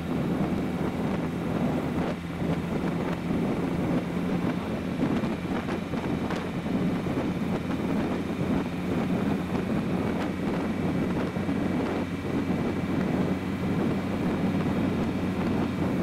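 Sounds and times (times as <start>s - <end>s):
car engine running: 0.0s - 16.0s
road noise: 0.0s - 16.0s
wind noise: 0.0s - 16.0s.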